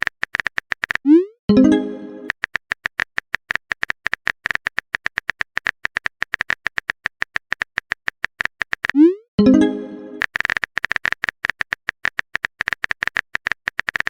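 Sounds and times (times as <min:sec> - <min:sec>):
phone keyboard typing clicks: 0:00.0 - 0:09.1, 0:10.0 - 0:14.0.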